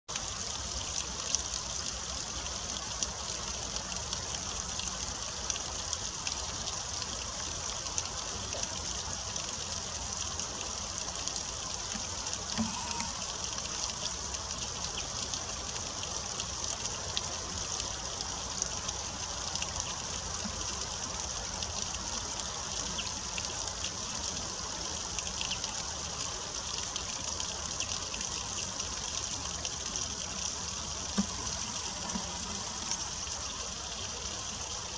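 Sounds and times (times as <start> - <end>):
water drip ticks: 0.1 - 34.9
water trickling down rocks: 0.1 - 34.9.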